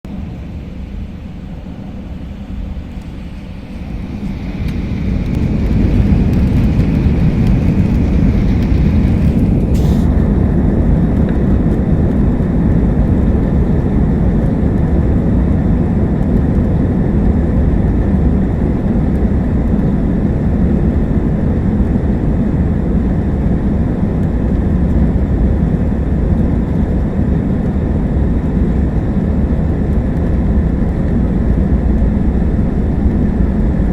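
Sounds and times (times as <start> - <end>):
airplane engines roaring: 0.0 - 33.9
faint whine: 0.1 - 33.9.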